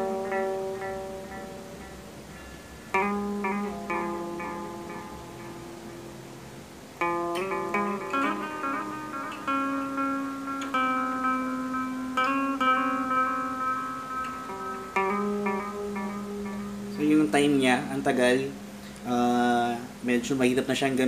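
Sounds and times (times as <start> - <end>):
guitar notes with echo repeats: 0.0 - 21.0.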